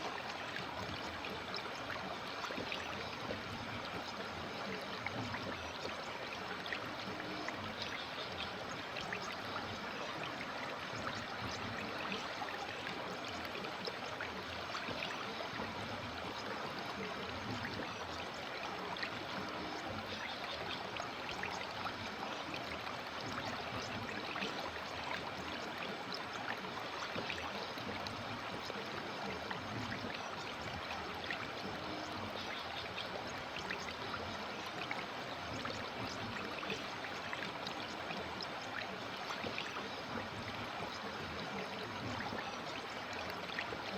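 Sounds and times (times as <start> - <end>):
river water flowing: 0.0 - 43.9
water splashing and trickling: 0.0 - 43.9.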